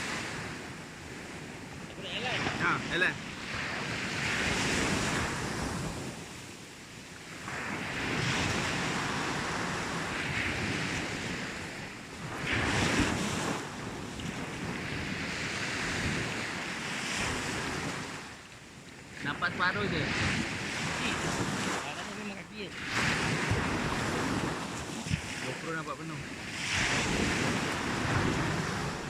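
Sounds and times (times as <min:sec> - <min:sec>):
sea waves breaking on beach: 0:00.0 - 0:29.0
wind buffeting microphone: 0:00.0 - 0:29.0.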